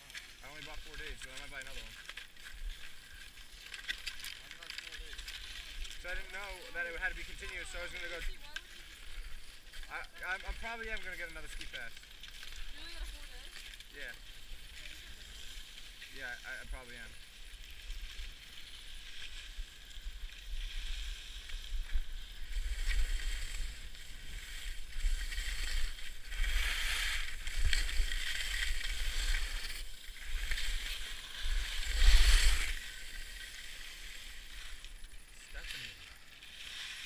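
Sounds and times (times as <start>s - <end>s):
skis scraping over snow: 0.0s - 37.0s.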